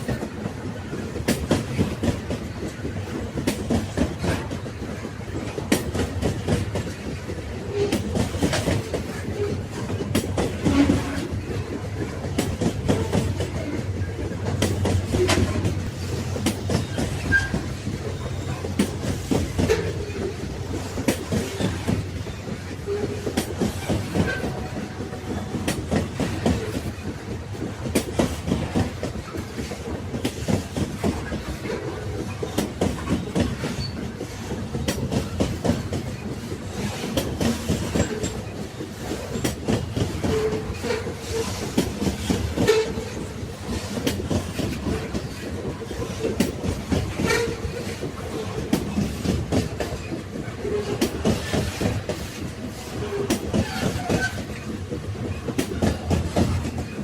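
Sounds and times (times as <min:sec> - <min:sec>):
railway wagons rumbling: 0:00.0 - 0:57.0
wheels clicking over rails: 0:00.0 - 0:57.0.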